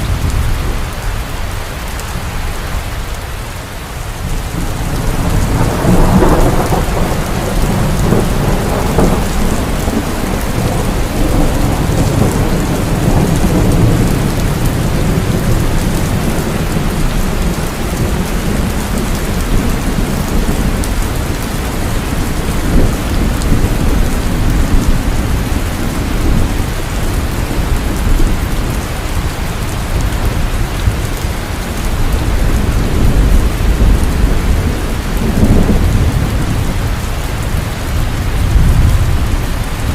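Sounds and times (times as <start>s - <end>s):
low rolling thunder: 0.0s - 2.6s, 4.1s - 39.9s
heavy rain falling: 0.0s - 39.9s.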